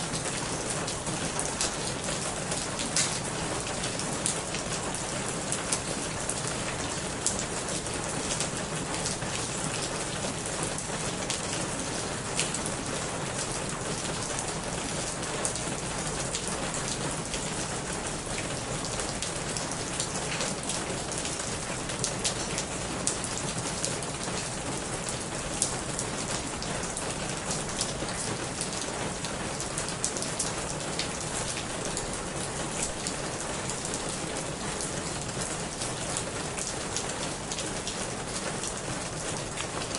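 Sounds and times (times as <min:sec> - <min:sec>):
rain on a corrugated roof: 0:00.0 - 0:39.9.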